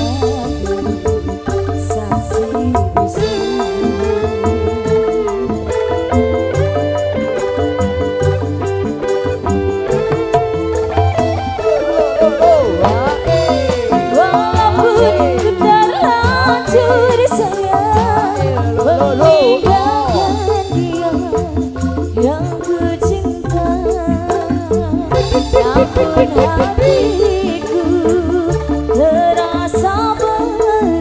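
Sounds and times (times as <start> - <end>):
band music with wavering melody: 0.0 - 31.0.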